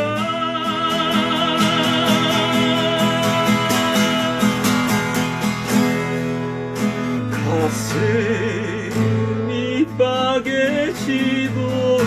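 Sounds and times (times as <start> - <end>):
person singing with vibrato: 0.0 - 5.1, 7.3 - 12.0
strummed guitar: 0.0 - 12.0.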